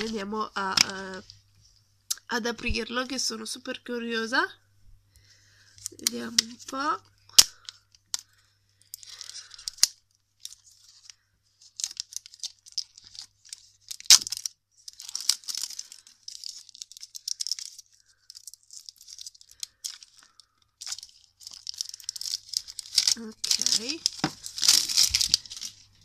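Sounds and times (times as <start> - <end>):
plastic wrap crackling: 0.0 - 1.4, 5.8 - 26.0.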